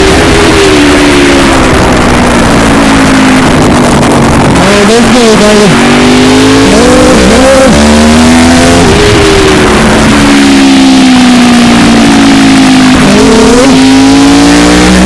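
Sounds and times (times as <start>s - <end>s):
engine at high revs: 0.0s - 15.0s.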